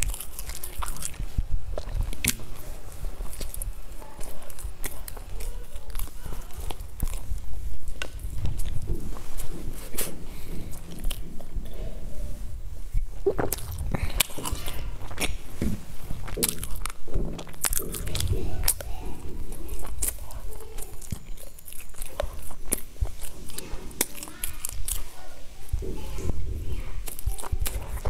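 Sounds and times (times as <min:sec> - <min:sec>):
chewing crusty bread: 0:00.0 - 0:28.0.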